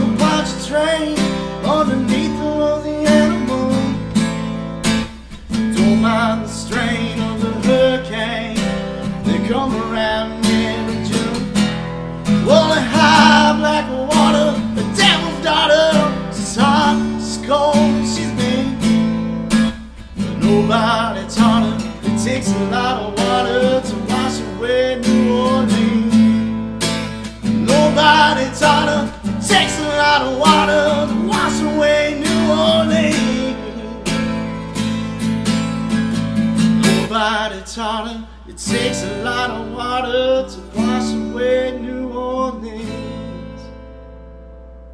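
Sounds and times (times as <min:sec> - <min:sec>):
man singing: 0:00.0 - 0:04.3, 0:05.3 - 0:26.6, 0:27.3 - 0:34.5, 0:36.8 - 0:43.7
acoustic guitar strumming: 0:00.0 - 0:44.9.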